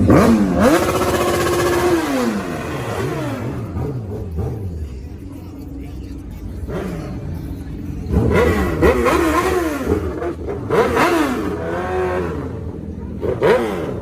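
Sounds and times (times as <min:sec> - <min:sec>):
car engine revving: 0:00.0 - 0:14.0
engine idle rumble: 0:00.0 - 0:14.0.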